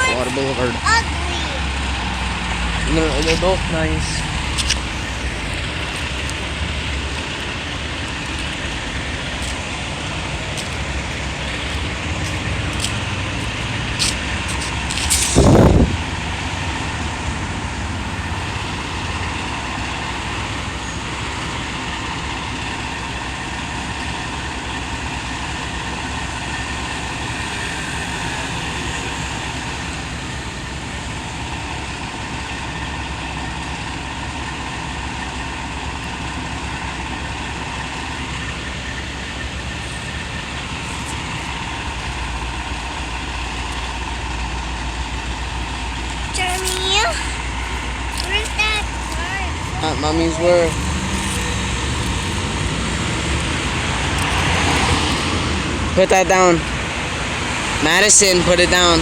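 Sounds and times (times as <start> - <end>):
city traffic noise: 0.0 - 59.0
heavy engines idling: 0.0 - 59.0.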